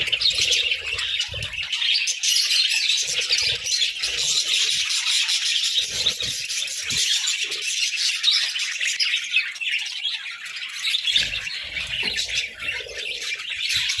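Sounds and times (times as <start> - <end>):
budgerigars chirping: 0.0 - 14.0.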